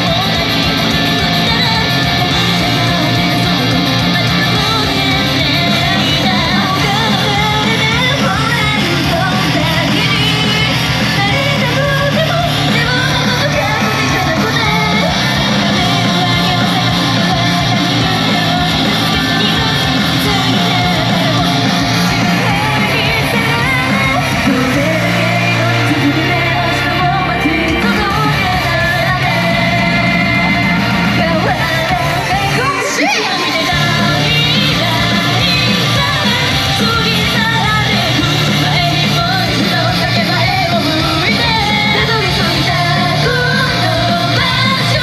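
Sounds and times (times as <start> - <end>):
crowd shouting: 0.0 - 45.0
distorted guitars: 0.0 - 45.0
driving drum beat: 0.0 - 45.0
women singing: 0.0 - 45.0.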